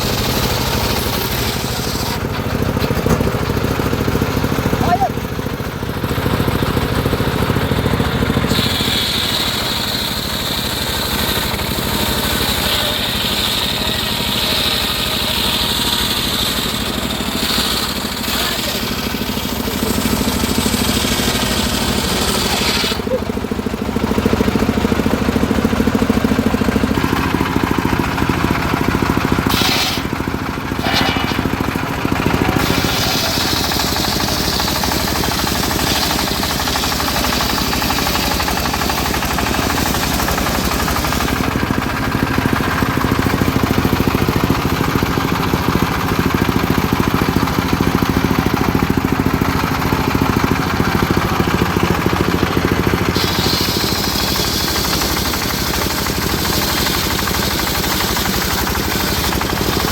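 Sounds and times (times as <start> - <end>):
circular sawmill running: 0.0 - 59.9.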